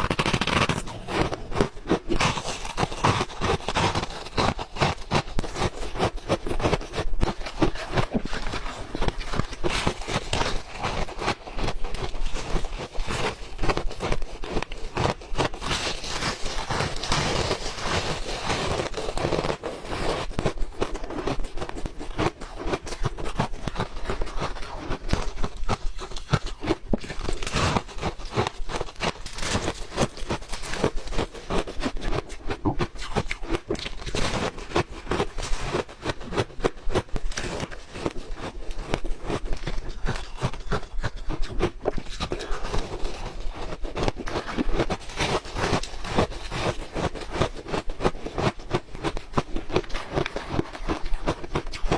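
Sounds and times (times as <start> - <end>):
ice being chewed: 0.0 - 51.9.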